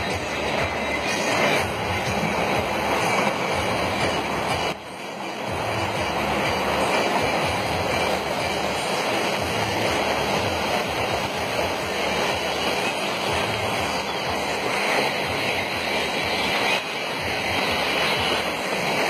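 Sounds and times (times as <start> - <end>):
heavy rain and floodwater roaring: 0.0 - 19.0.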